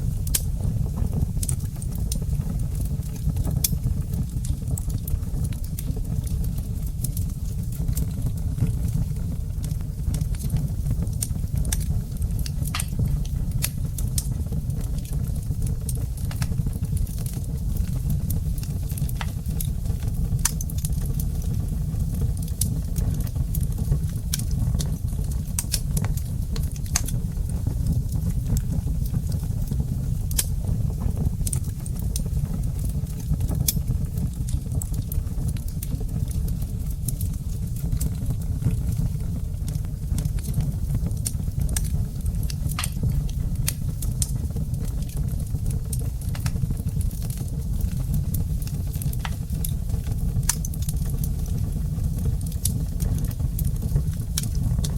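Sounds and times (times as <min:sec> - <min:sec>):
fire crackling and popping: 0:00.0 - 0:54.9
low rumble of flames: 0:00.0 - 0:54.9.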